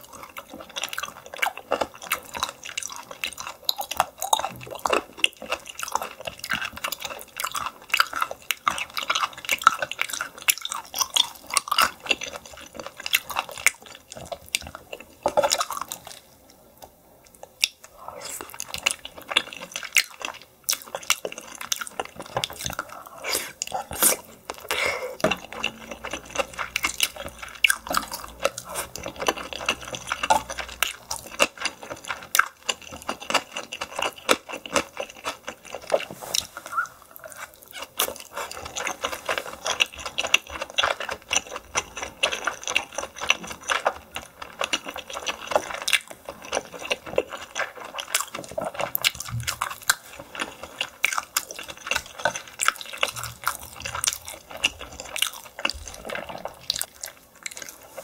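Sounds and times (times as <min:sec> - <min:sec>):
wet chewing: 0:00.0 - 0:16.3, 0:17.2 - 0:58.0.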